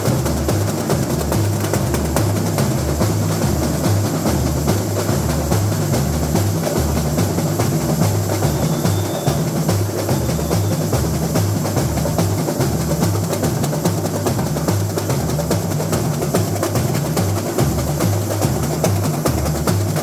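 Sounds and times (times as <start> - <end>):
fast snare and small percussion: 0.0 - 20.0
surdo bass drums: 0.0 - 20.0.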